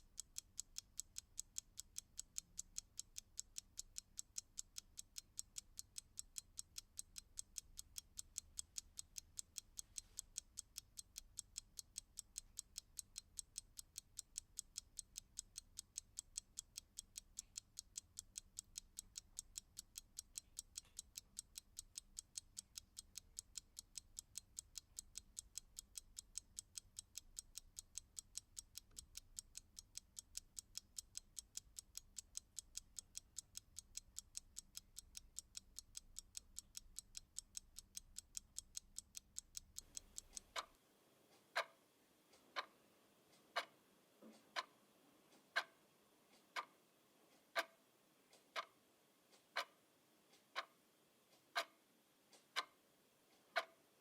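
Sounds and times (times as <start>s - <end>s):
clock ticking: 0.0s - 53.8s.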